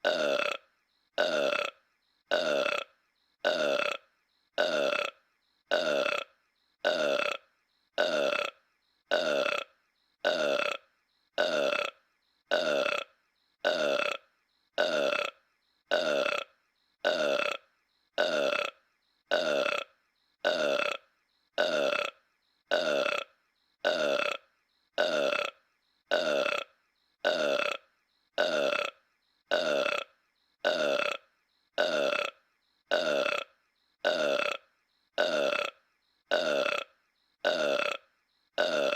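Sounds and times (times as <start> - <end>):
cartoon burp: 0.0 - 38.9.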